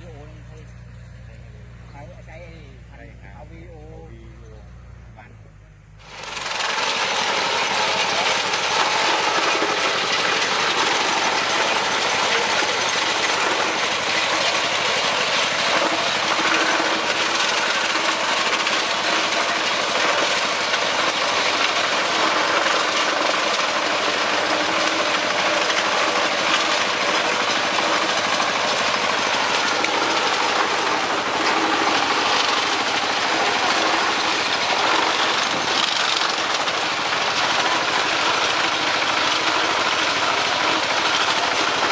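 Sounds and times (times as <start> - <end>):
farm machine running: 0.0 - 41.9.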